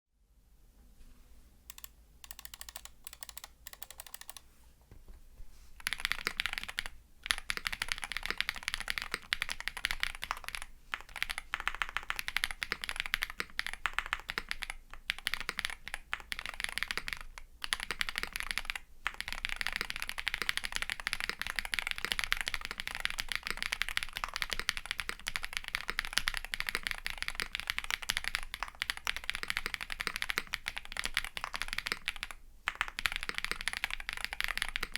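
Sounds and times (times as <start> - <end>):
keyboard typing: 1.7 - 4.4, 5.8 - 34.9.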